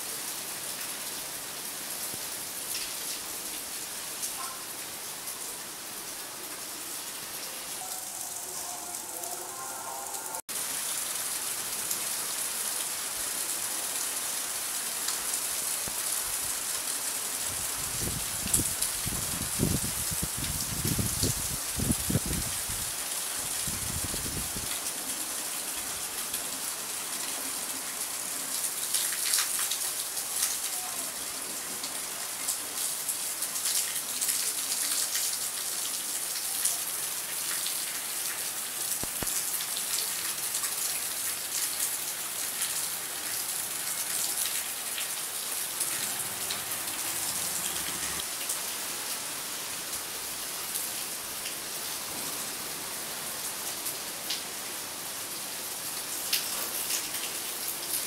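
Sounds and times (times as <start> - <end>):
close rain spatters: 0.0 - 58.0
steady rain falling: 0.0 - 58.0.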